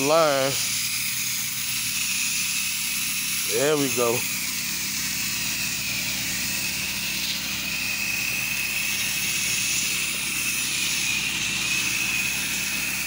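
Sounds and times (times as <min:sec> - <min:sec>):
high-pitched whine: 0:00.0 - 0:13.0
pressure washer engine drone: 0:00.0 - 0:13.0
water spray hissing on concrete: 0:00.0 - 0:13.0.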